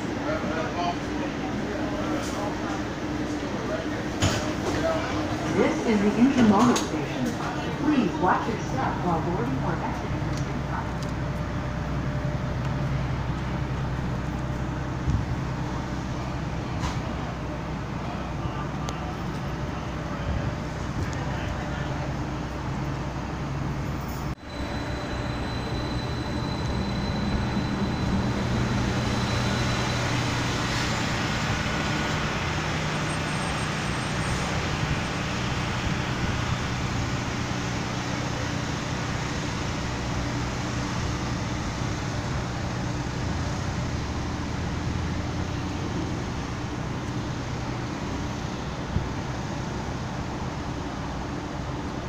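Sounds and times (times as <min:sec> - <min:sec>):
street traffic noise: 0:00.0 - 0:52.0
streetcar equipment humming: 0:00.0 - 0:52.0.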